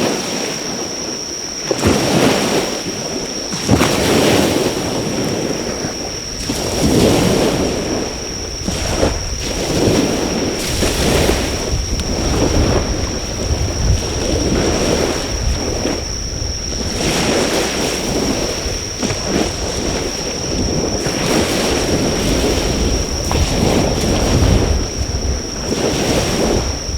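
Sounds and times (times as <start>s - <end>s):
sea waves washing onto shore: 0.0s - 26.9s
wind rumble on microphone: 0.0s - 26.9s
insects singing: 0.6s - 26.9s.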